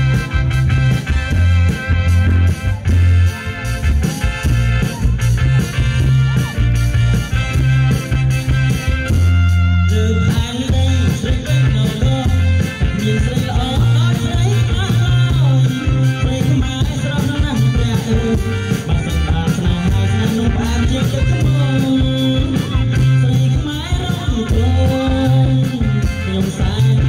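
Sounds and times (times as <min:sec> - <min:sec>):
loud dance music over pa: 0:00.0 - 0:27.0.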